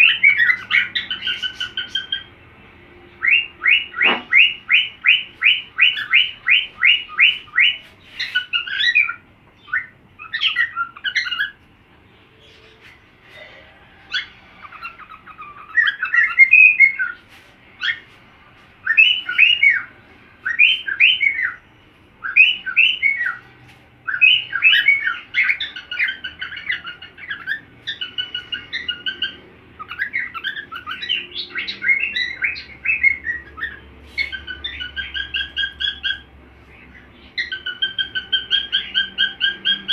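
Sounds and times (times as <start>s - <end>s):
cockatiel whistling song: 0.0s - 2.3s, 3.2s - 11.6s, 12.4s - 17.2s, 17.8s - 18.0s, 18.8s - 39.9s.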